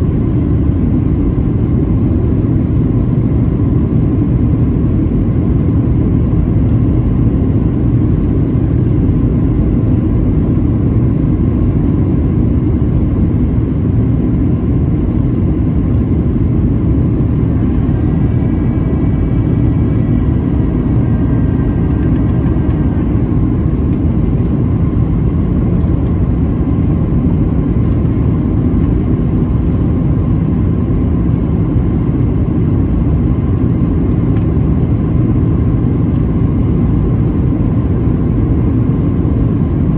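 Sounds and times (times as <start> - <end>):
faint multi-tone whine: 0.0 - 39.9
jet engine and airflow noise: 0.0 - 39.9.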